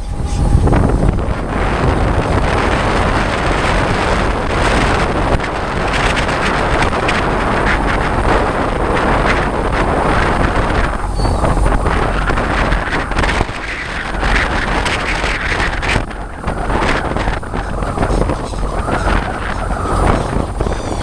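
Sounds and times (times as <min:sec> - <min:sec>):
boat engine rumble: 0:00.0 - 0:21.0
wind hissing over microphone: 0:00.0 - 0:21.0.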